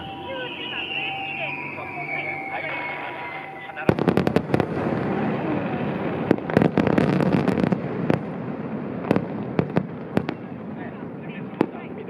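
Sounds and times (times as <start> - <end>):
fireworks bursting with bangs: 0.0 - 12.0
steady noisy background: 0.0 - 12.0.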